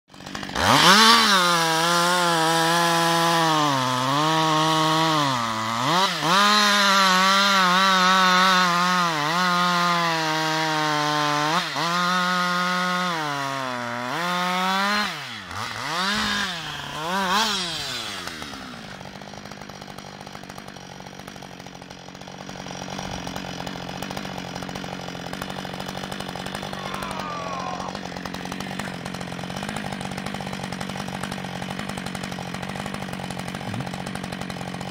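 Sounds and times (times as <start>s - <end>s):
chainsaw cutting wood: 0.1s - 34.9s
chainsaw idling: 0.1s - 34.9s.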